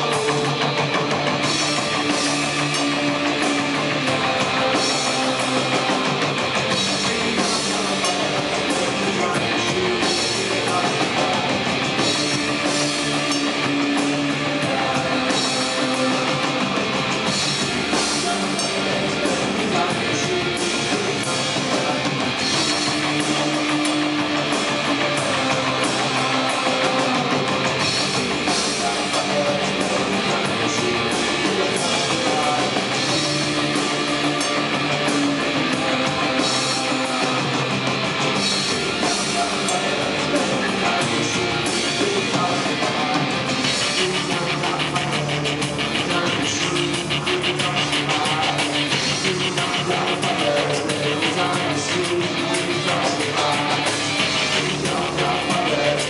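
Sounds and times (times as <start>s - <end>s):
live rock band playing: 0.0s - 56.0s
person singing into microphone: 0.0s - 56.0s.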